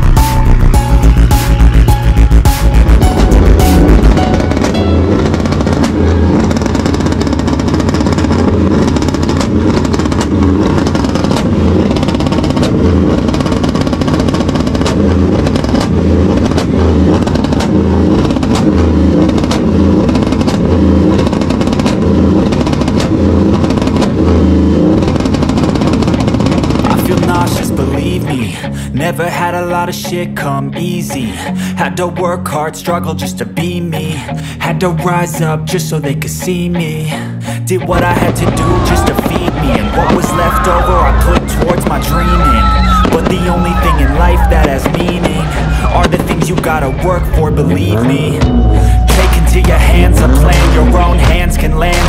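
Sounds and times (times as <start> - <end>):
pickup engine revving: 0.0 - 29.9, 31.3 - 52.0.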